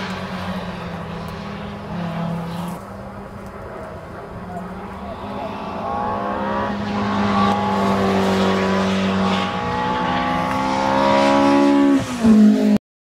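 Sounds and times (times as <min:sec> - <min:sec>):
rally car engine revving: 0:00.0 - 0:12.8.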